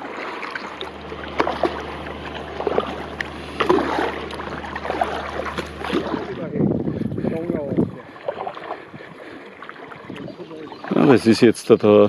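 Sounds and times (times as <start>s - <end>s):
paddle splashing through water: 0.0s - 11.2s.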